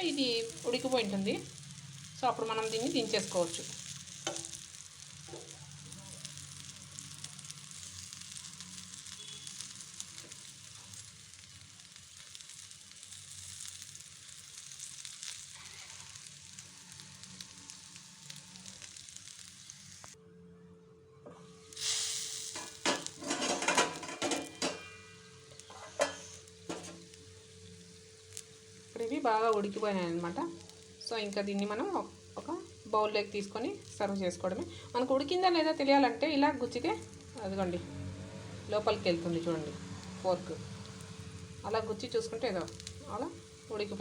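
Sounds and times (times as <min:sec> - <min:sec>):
eggplants sizzling in oil: 0:00.0 - 0:20.2, 0:21.6 - 0:44.0.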